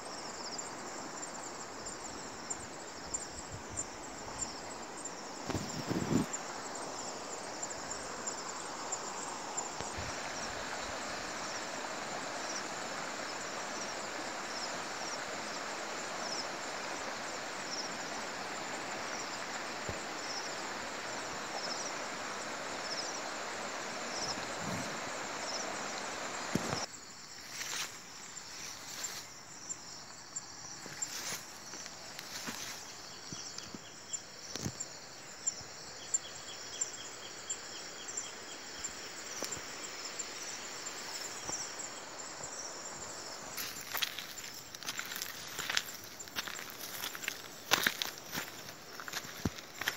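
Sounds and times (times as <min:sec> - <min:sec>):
faint high insect buzz: 0:00.0 - 0:49.9
insects chirping: 0:00.0 - 0:49.9
leaves rustling: 0:01.8 - 0:21.5, 0:23.1 - 0:35.0, 0:38.6 - 0:49.9.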